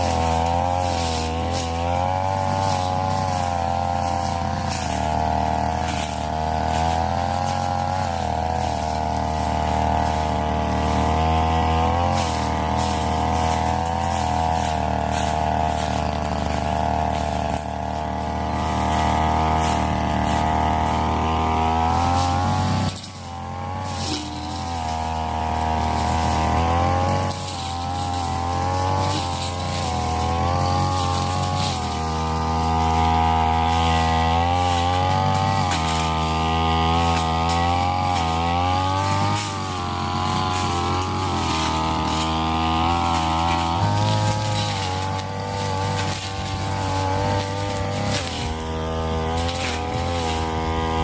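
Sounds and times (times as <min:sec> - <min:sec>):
brush cutter engine running: 0:00.0 - 0:51.0.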